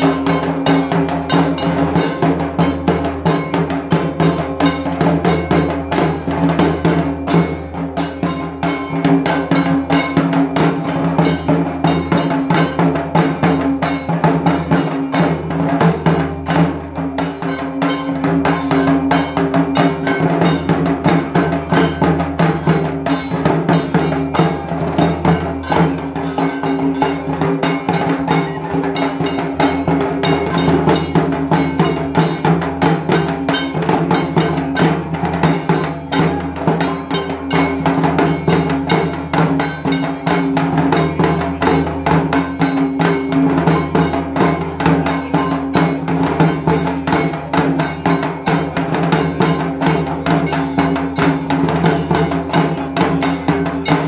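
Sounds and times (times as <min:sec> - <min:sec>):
barrel drums beaten with sticks: 0:00.0 - 0:54.0.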